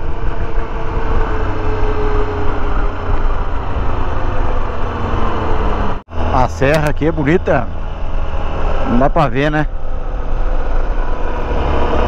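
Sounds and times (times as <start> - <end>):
motorcycle engine drone: 0.0 - 12.0
wind and road rush: 0.0 - 12.0.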